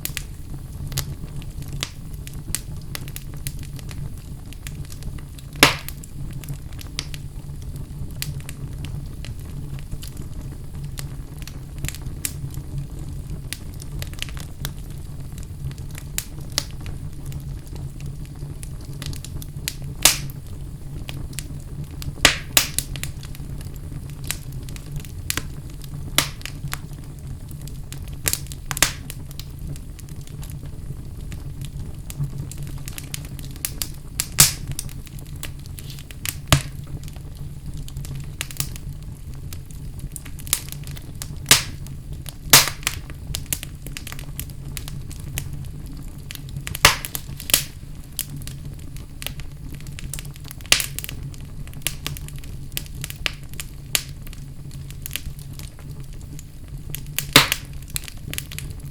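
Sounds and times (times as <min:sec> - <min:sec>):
fire crackles and pops: 0:00.0 - 0:58.9
fire rumbling: 0:00.0 - 0:58.9.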